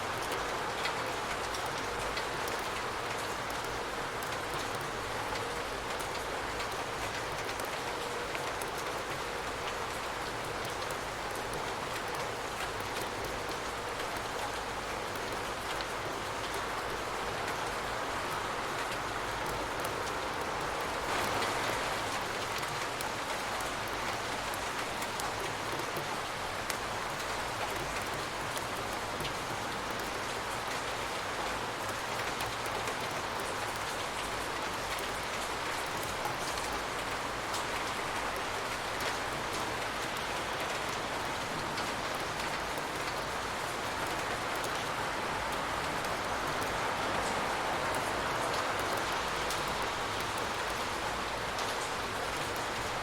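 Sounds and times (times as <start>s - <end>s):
raindrops ticking on surfaces: 0.0s - 53.0s
steady rain falling: 0.0s - 53.0s.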